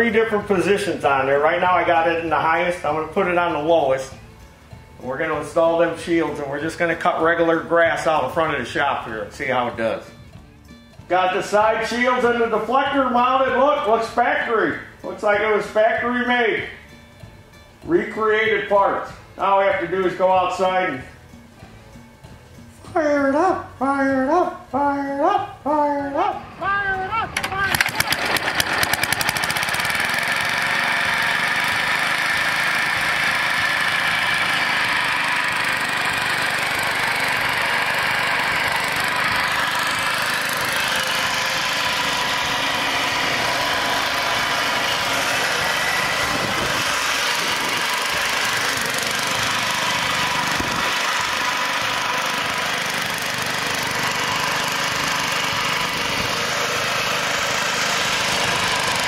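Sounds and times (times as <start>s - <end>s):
mower engine running: 0.0s - 17.3s, 26.1s - 59.0s.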